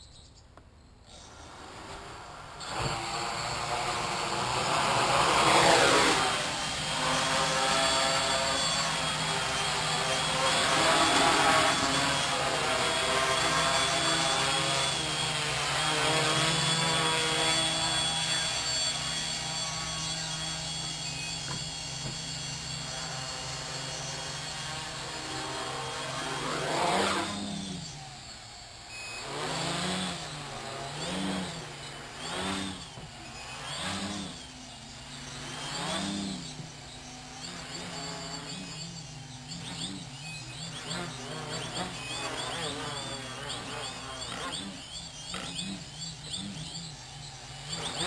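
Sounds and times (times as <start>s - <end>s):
quadcopter motors buzzing: 1.0s - 48.0s.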